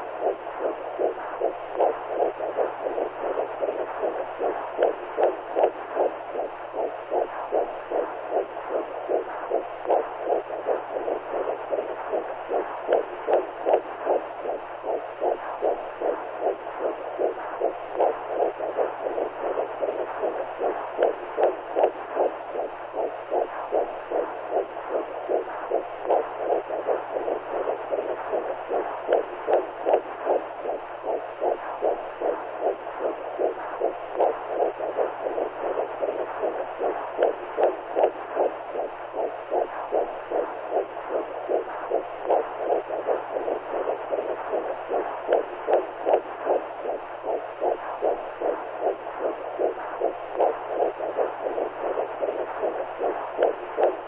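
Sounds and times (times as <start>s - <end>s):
faint low hum: 0.0s - 54.0s
rhythmic heartbeat-like pulse: 0.0s - 54.0s.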